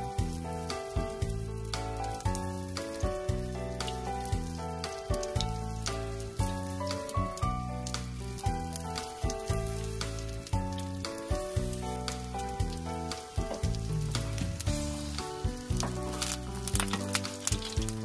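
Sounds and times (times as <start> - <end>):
background music: 0.0 - 18.0
pancakes sizzling in oil: 0.0 - 18.0.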